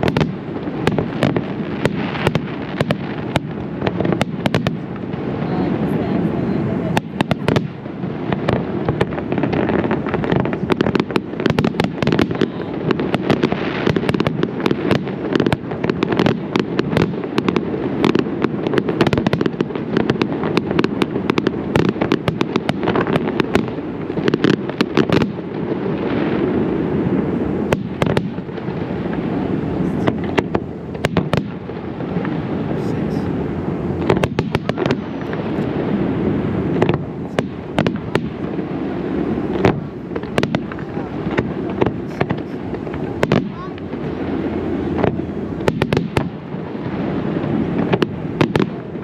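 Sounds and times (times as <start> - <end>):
continuous low rumble: 0.0 - 49.0
fireworks bangs and crackles: 0.0 - 49.0.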